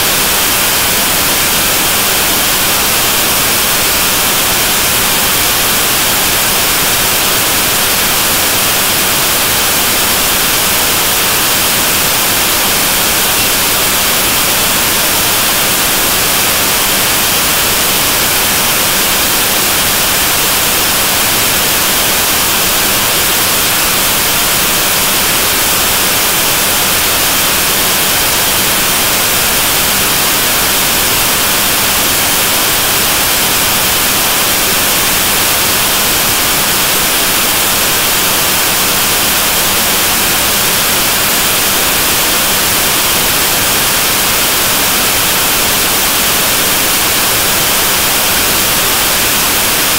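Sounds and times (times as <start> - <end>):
loud static hiss: 0.0 - 49.9.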